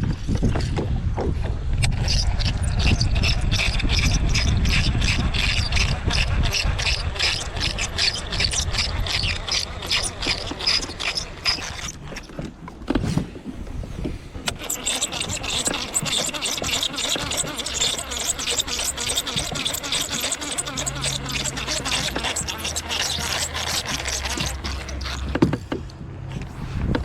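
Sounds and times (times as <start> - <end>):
fishing reel squeaking and grinding: 1.8 - 12.6, 14.4 - 27.0.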